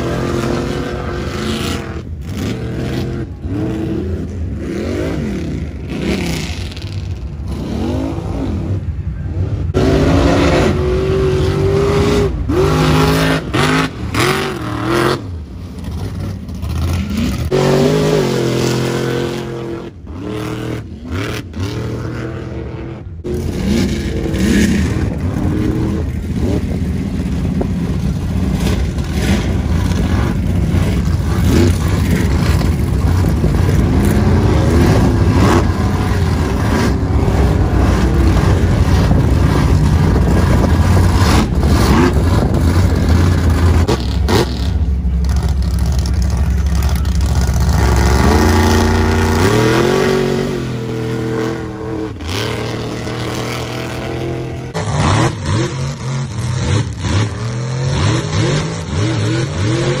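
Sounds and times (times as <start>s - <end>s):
truck engines revving: 0.0s - 60.0s.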